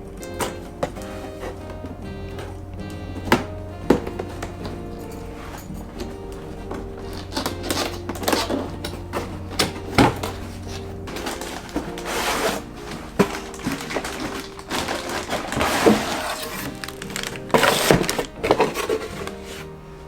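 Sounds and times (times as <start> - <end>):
knocks and clicks: 0.0 - 19.4
packaging rustling: 0.0 - 20.0
soft background music: 0.0 - 20.0.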